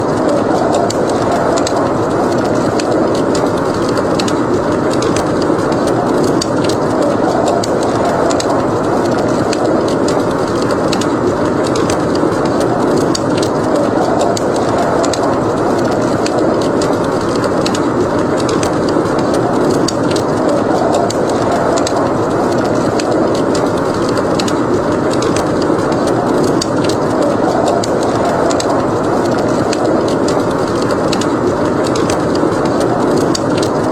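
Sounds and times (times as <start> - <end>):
blizzard wind rushing: 0.0 - 33.9
wood fire crackling: 0.0 - 33.9.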